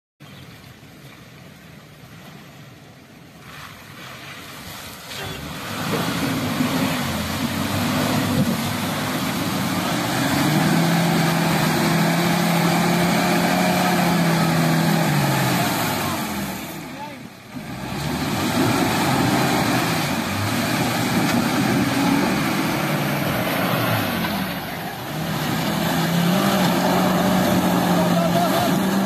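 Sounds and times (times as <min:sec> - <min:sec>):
engine revving hard: 0:05.2 - 0:29.0.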